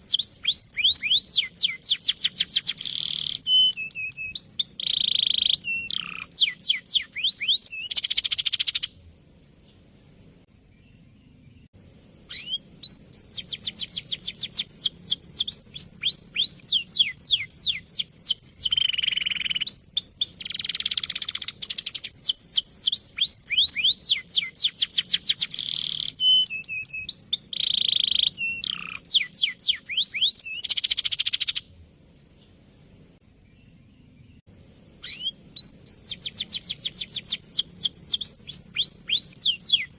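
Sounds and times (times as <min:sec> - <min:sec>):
canary singing trills: 0:00.0 - 0:32.6, 0:33.4 - 0:39.9.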